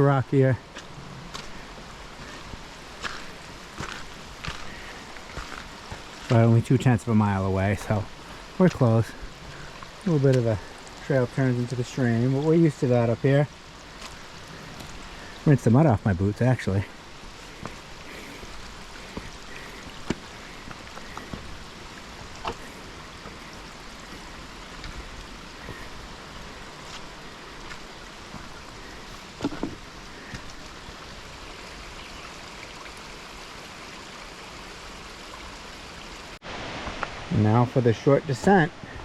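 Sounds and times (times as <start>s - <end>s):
stream running over rocks: 0.0s - 39.0s.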